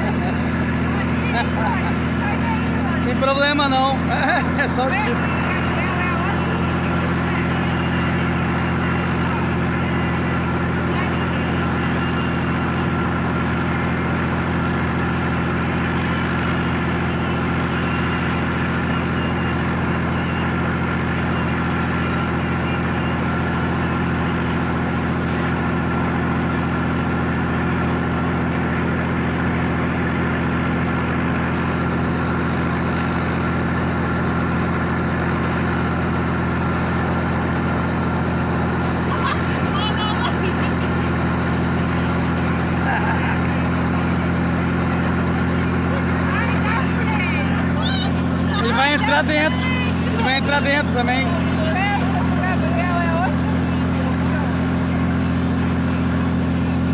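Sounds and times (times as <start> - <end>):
helicopter engine droning: 0.0 - 56.9.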